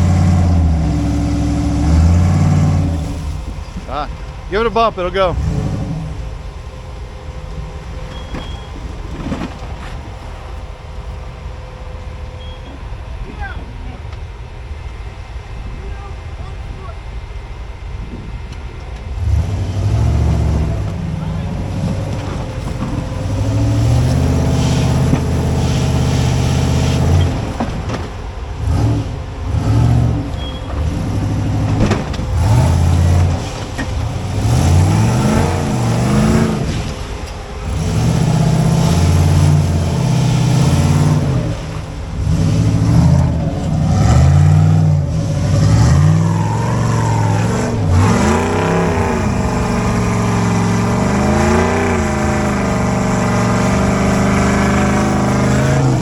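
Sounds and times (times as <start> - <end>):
engine revving in bursts: 0.0 - 11.3, 15.3 - 56.0.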